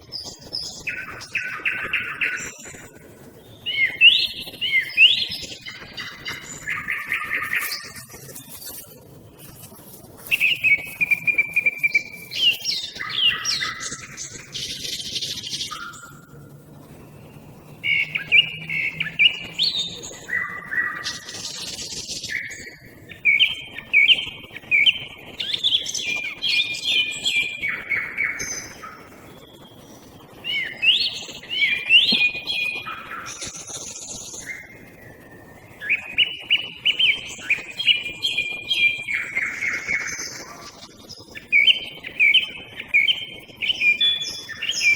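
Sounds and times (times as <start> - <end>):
song thrush singing: 0.0 - 16.3, 17.0 - 44.9
nightingale singing: 0.1 - 44.9.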